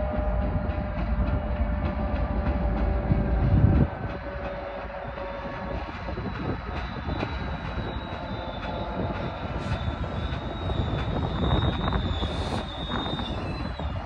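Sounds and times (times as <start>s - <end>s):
diesel locomotive engine drone: 0.0s - 14.0s
train wheel rumble: 0.0s - 14.0s.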